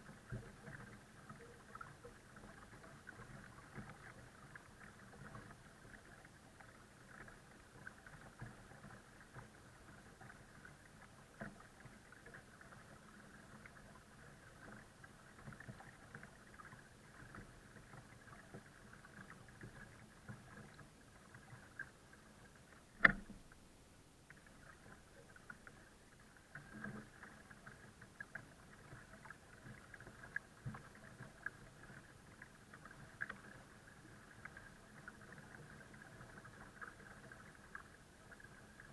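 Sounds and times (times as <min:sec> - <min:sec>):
water splashes and crackles: 0:00.0 - 0:38.9.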